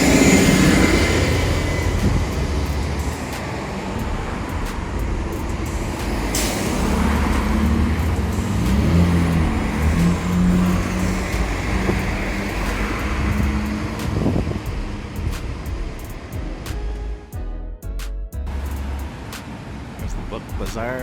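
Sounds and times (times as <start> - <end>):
low hum: 0.0 - 3.3, 4.0 - 19.2
vehicle engines running: 0.0 - 17.2, 18.4 - 21.0.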